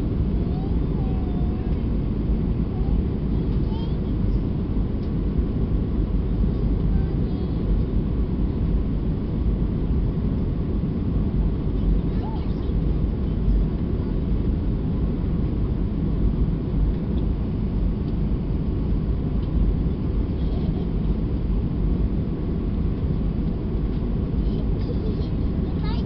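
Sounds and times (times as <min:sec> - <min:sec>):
airplane cabin rumble: 0:00.0 - 0:26.0.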